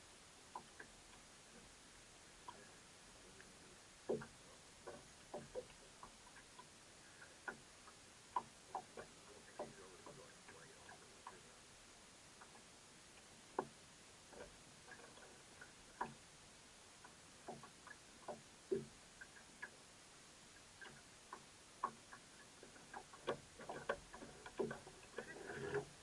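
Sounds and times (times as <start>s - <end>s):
light clicks and taps: 2.4s - 11.6s, 12.4s - 16.2s, 17.0s - 19.8s, 20.5s - 26.0s.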